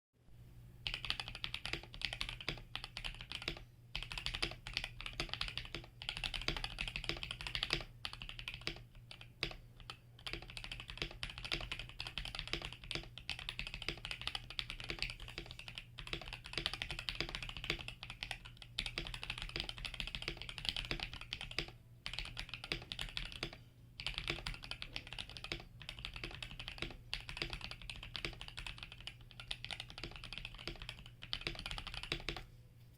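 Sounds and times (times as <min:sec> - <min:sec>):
mechanical keyboard typing: 0:00.8 - 0:32.5.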